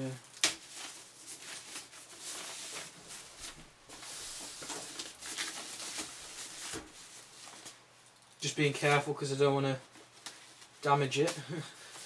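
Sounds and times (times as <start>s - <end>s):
packaging wrap rustling and crinkling: 0.0s - 9.2s, 9.8s - 12.0s.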